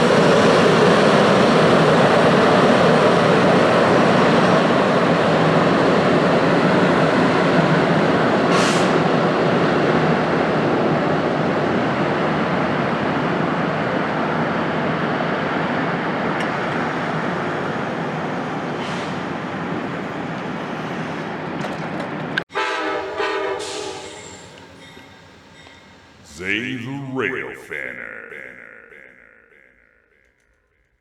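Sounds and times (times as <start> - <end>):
rail grinding train passing: 0.0 - 30.1.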